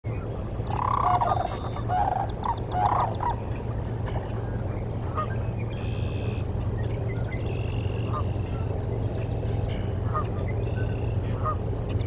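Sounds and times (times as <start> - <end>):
steady low hum: 0.1 - 12.0
waterfowl calling: 0.6 - 12.0.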